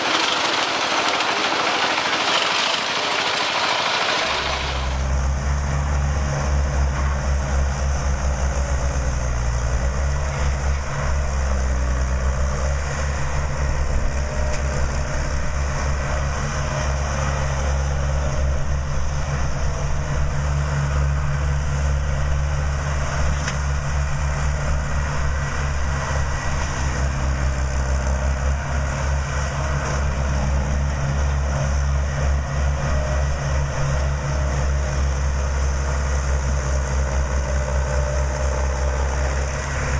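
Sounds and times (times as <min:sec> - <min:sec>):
farm machine engine humming: 0:00.0 - 0:39.9.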